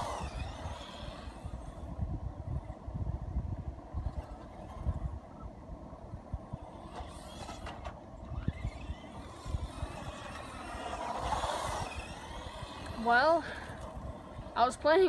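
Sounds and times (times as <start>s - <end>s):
electric motor whining: 0.0s - 14.9s.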